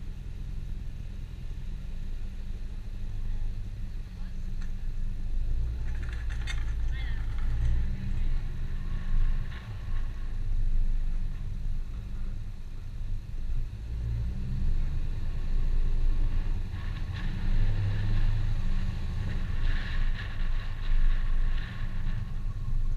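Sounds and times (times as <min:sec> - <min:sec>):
car engine rumbling: 0:00.0 - 0:22.9.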